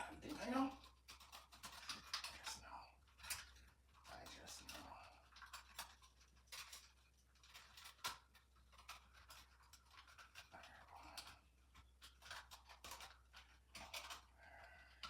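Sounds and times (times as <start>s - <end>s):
clicks and rustles of handling wires: 0.0s - 15.0s.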